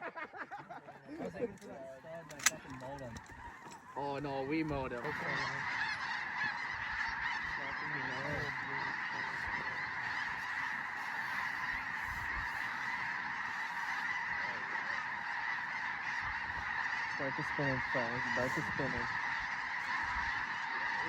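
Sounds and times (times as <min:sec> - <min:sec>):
flock of geese honking: 0:00.0 - 0:21.0.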